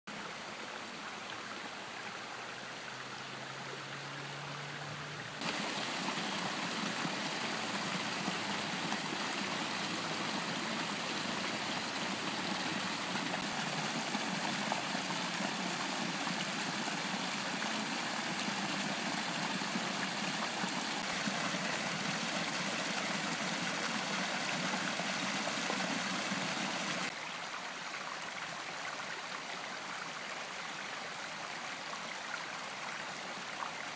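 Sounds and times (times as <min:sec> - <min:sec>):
stream splashing over rocks: 0:05.4 - 0:33.9.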